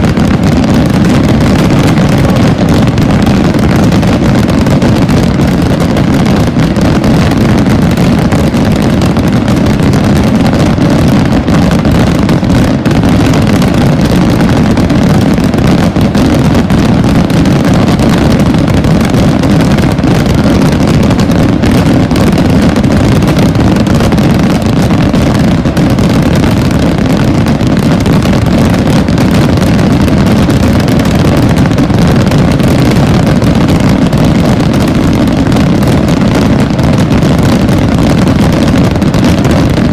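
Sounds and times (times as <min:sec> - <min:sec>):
skyrocket bangs in continuous rumble: 0:00.0 - 0:39.9.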